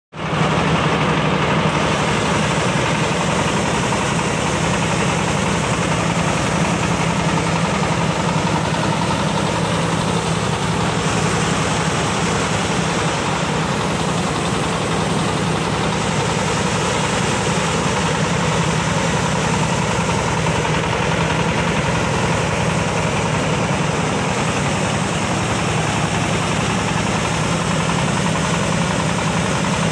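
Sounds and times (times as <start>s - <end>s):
diesel engine running: 0.1s - 29.9s
fan blowing spray mist: 0.2s - 29.9s.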